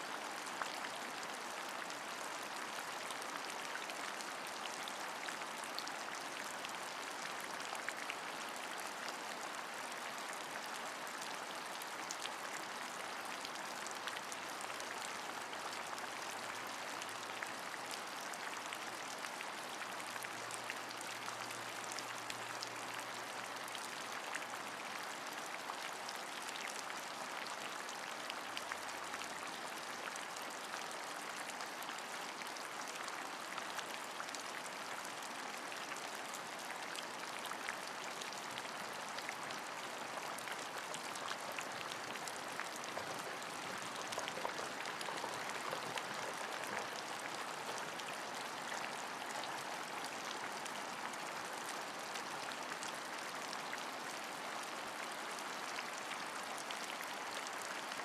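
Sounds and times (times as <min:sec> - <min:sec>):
rain pattering: 0:00.1 - 0:58.0.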